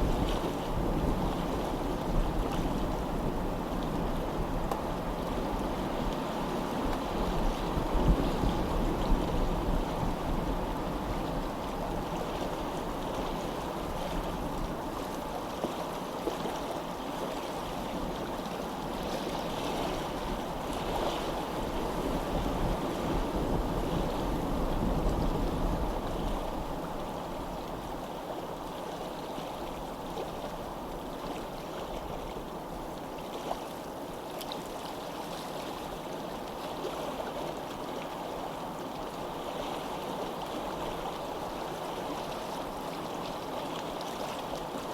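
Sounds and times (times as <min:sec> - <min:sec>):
flowing water: 0:00.0 - 0:44.9.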